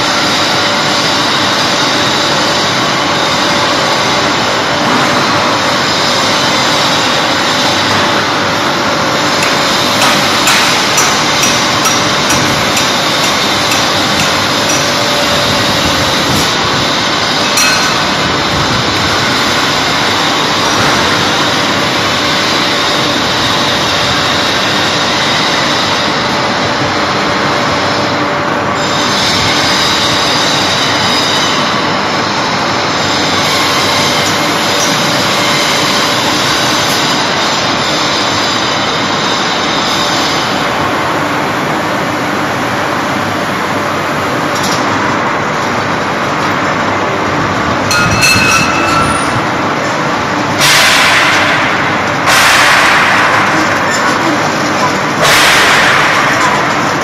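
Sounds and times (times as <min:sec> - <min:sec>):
production line machinery: 0:00.0 - 0:57.0.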